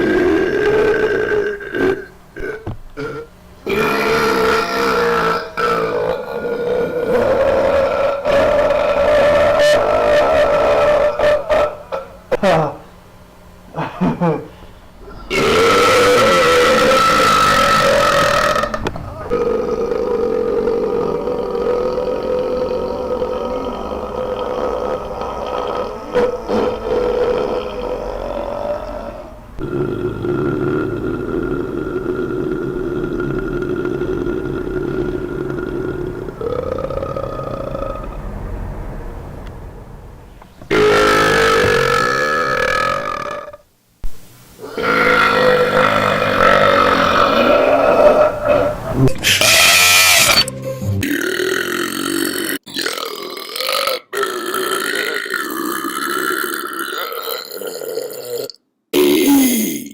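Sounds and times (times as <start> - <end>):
person burping: 0.0 - 12.8, 13.8 - 38.2, 40.7 - 43.6, 44.6 - 59.9.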